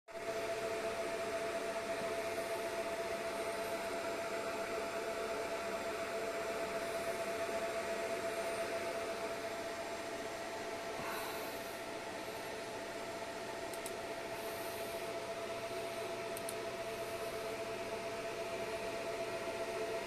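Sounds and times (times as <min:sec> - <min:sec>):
cooling fan whirring: 0:00.1 - 0:20.0.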